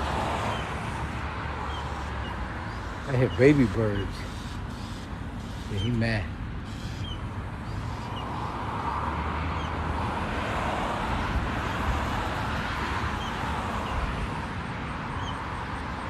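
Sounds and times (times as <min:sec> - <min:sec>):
car passing: 0:00.0 - 0:16.0
steady traffic noise: 0:00.0 - 0:16.0.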